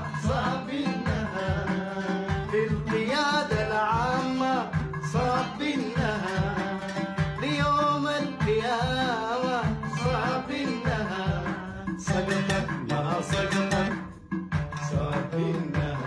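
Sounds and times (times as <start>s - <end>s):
man singing: 0.0s - 16.0s
oud plucking: 0.0s - 16.0s.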